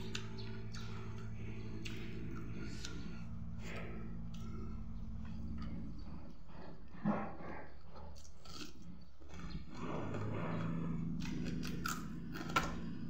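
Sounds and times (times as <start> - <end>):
chewing and lip smacking: 0.0 - 7.0, 7.8 - 13.0
steady low hum: 0.0 - 13.0.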